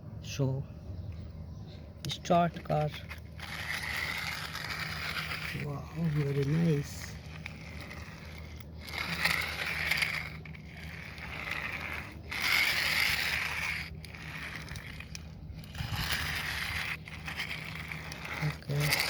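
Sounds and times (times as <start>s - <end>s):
plastic toy car wheels rattling: 2.1s - 19.0s.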